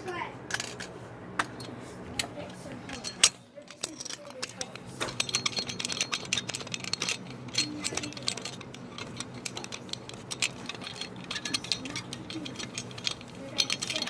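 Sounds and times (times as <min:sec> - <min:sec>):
small metallic clicks and rattles: 0:00.5 - 0:14.0.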